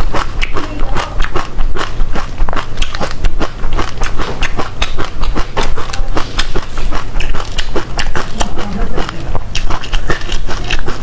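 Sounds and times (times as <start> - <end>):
wet chewing and smacking: 0.0 - 11.0.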